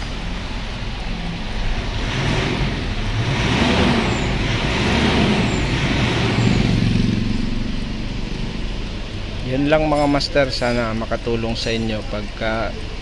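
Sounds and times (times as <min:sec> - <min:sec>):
pickup engine running: 0:00.0 - 0:13.0.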